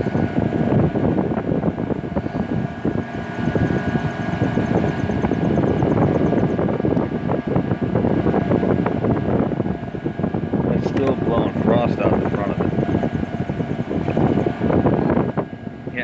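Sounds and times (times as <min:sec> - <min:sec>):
air conditioner fan blowing: 0:00.0 - 0:16.0.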